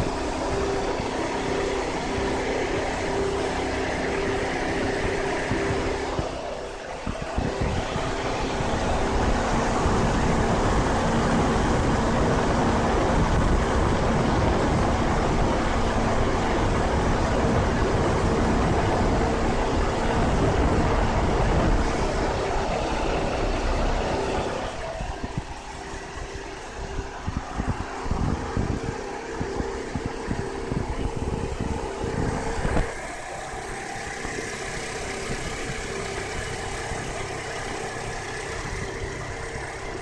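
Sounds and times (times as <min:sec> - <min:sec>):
car engine running: 0:00.0 - 0:40.0
constant hum: 0:00.0 - 0:40.0.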